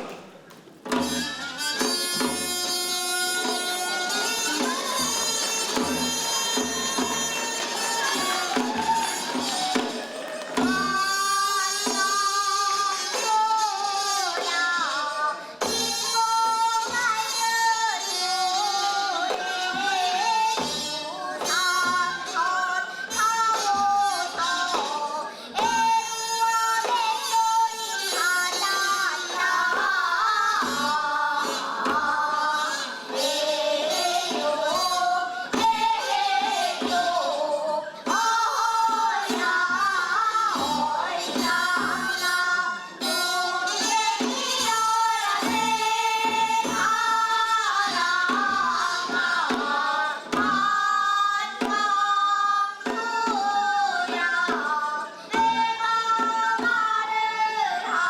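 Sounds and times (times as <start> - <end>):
women singing folk song: 3.3 - 58.0.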